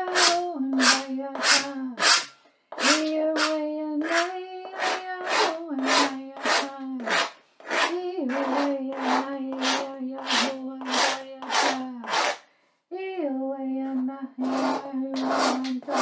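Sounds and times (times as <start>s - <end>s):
woman chanting: 0.0s - 2.2s, 2.8s - 12.1s, 12.9s - 16.0s
carving tool scratching blackboard: 0.0s - 12.4s, 14.4s - 16.0s.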